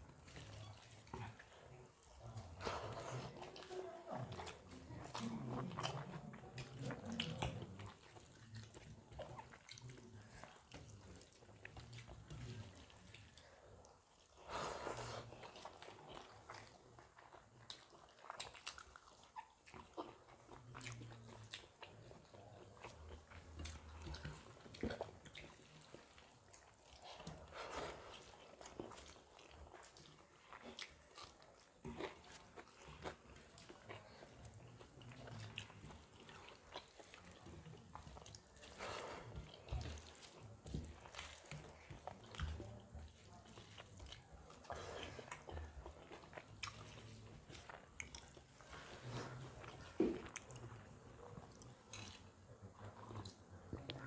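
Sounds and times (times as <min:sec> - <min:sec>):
wet chewing: 0:00.0 - 0:54.0.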